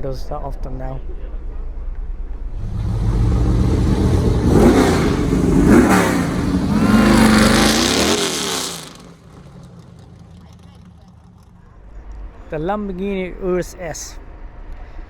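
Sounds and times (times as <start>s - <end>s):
car engine idling and revving: 1.5s - 15.0s.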